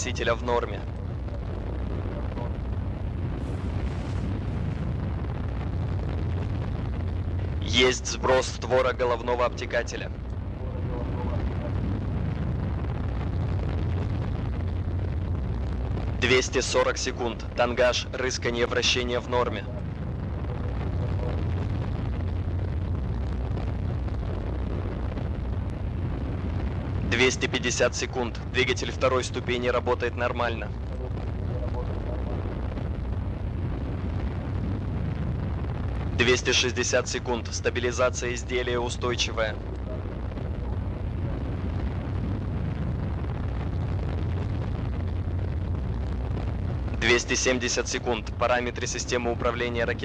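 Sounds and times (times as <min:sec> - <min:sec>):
rocket engine rumble: 0:00.0 - 0:50.0.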